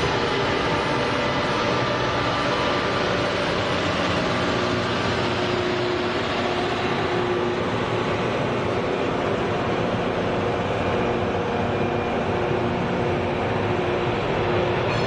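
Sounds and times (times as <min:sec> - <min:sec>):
diesel train rolling past: 0:00.0 - 0:15.0.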